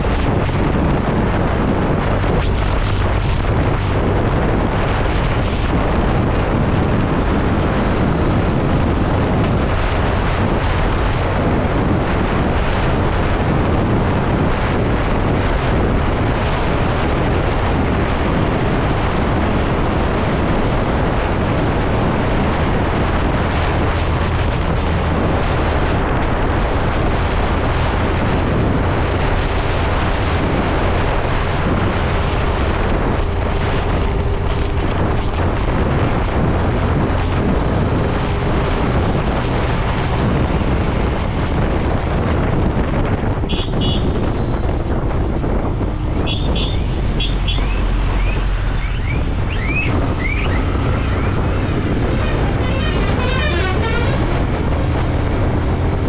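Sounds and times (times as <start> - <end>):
motorcycle engine drone: 0.0 - 56.0
wind noise on microphone: 0.0 - 56.0.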